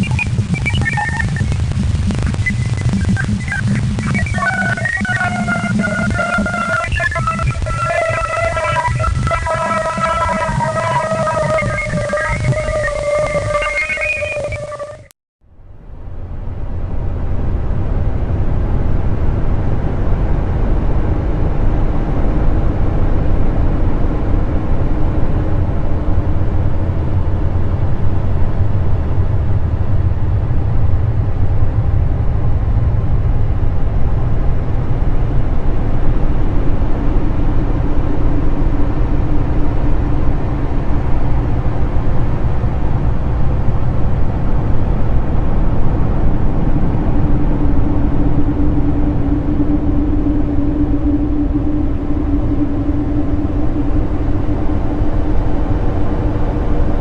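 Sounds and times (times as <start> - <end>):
deep rumbling drone: 0.0 - 57.0
faint hum: 0.0 - 57.0.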